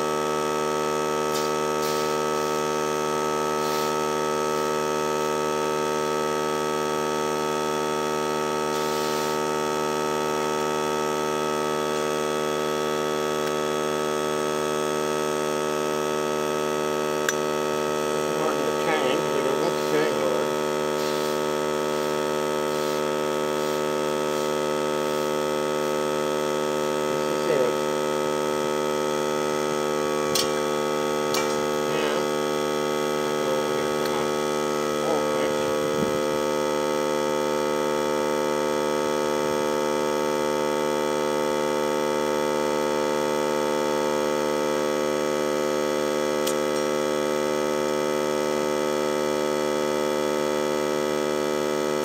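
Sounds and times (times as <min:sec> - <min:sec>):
steady multi-tone hum: 0:00.0 - 0:52.0.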